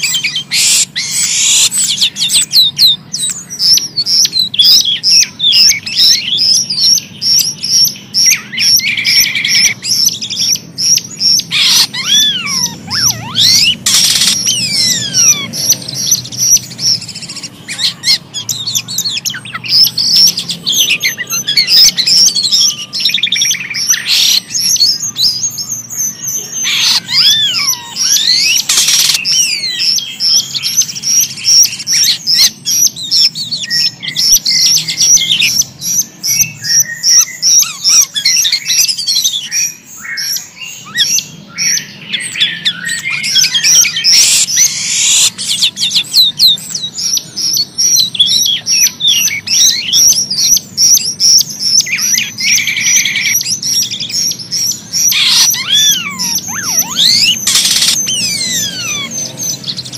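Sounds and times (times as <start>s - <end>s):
starlings singing: 0.0s - 59.9s.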